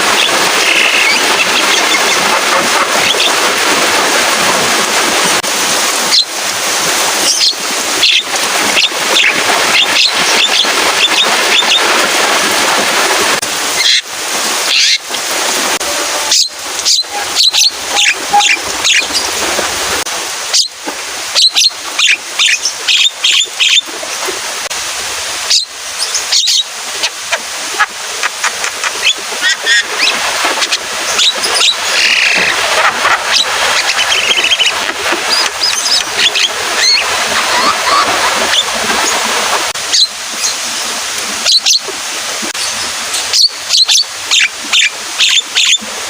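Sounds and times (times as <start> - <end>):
rain hissing: 0.0 - 45.2.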